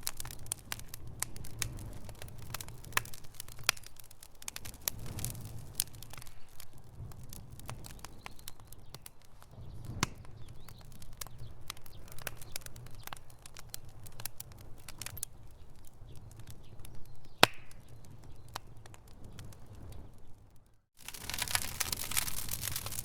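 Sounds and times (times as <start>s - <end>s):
campfire crackling and popping: 0.0s - 23.0s
low fire rumble: 0.0s - 23.0s.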